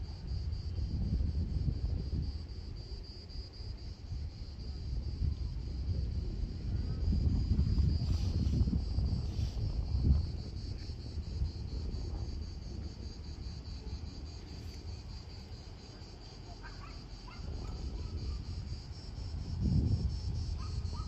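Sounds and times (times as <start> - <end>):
cicadas buzzing: 0.0 - 21.0
wind rumble on microphone: 0.0 - 21.0.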